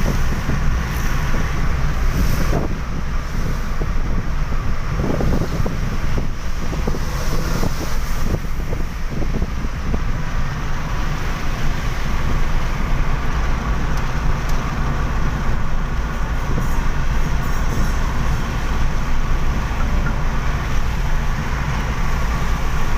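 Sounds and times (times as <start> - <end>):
car driving tyre and road noise: 0.0 - 22.9.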